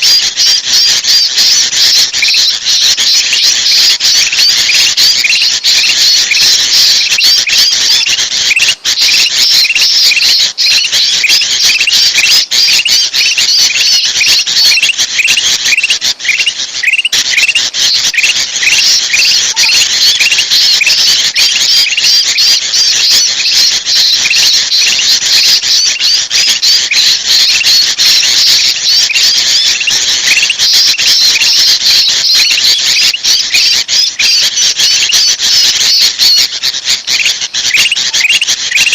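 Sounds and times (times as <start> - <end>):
chorus of bulbuls calling: 0.0 - 38.9.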